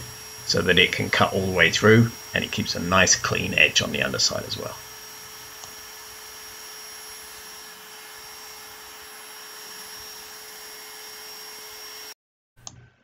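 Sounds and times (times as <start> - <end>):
router motor whining: 0.0 - 12.2.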